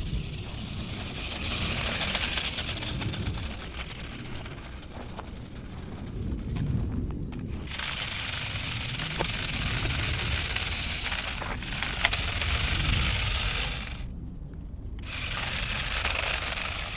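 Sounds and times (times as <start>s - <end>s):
toy car wheels scraping and rattling: 0.0s - 14.1s, 15.0s - 16.9s
sharp clicks: 0.2s - 16.9s.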